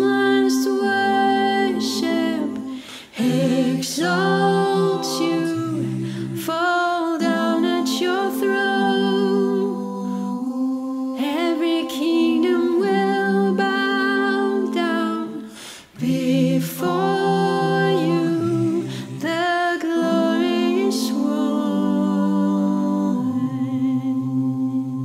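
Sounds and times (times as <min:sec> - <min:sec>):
person singing worship song: 0:00.0 - 0:25.0.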